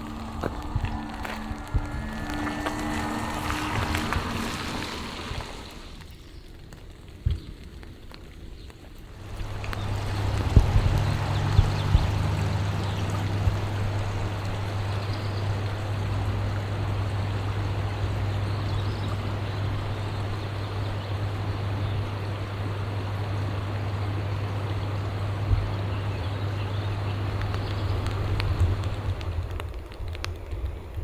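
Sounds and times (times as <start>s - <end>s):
deep rumble: 0.0s - 6.0s, 9.2s - 30.3s
rushing water: 0.0s - 30.5s.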